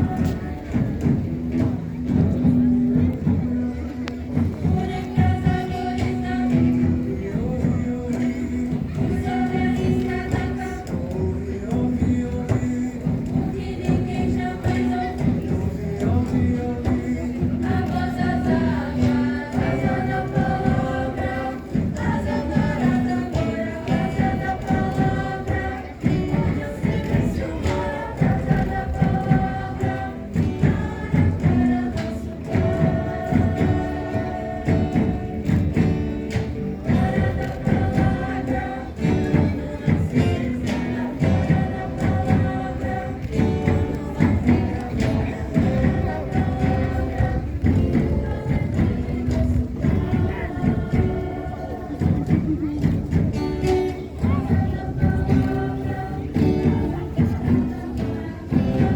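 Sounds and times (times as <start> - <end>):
group of voices singing: 0.0 - 58.9
rhythmic drum beat: 0.0 - 58.9.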